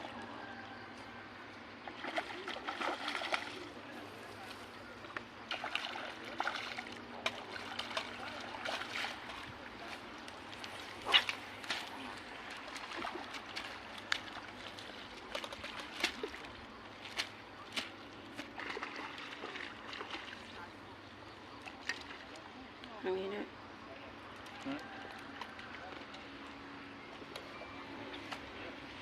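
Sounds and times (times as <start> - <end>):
water splashing and trickling: 1.3 - 23.5, 24.2 - 29.0.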